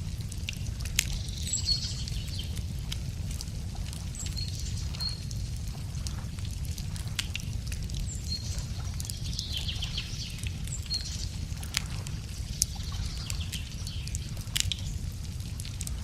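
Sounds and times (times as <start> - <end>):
steady low rumble: 0.0 - 16.0
wood fire crackling and popping: 0.0 - 16.0
small birds chirping: 1.0 - 2.7, 3.9 - 6.2, 7.0 - 16.0.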